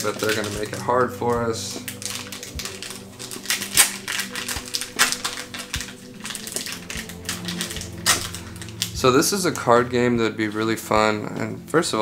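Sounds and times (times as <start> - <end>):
plastic wrapping crinkling: 0.0 - 10.9.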